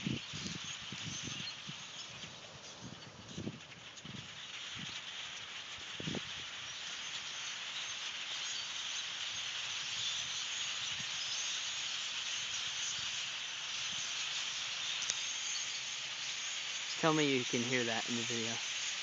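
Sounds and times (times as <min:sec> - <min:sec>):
large flock of birds calling: 0:00.0 - 0:19.0.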